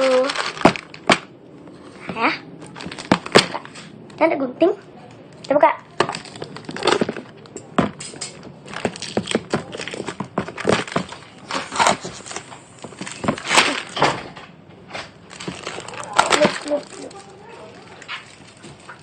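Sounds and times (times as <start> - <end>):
plastic wrapping crinkling: 0.0 - 4.0, 5.9 - 14.2, 15.0 - 19.0.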